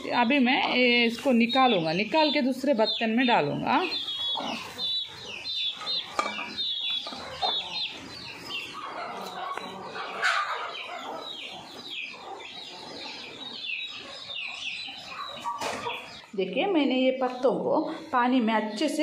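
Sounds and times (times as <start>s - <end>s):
chicken clucking: 0.0s - 16.4s
chicks cheeping: 0.0s - 19.0s.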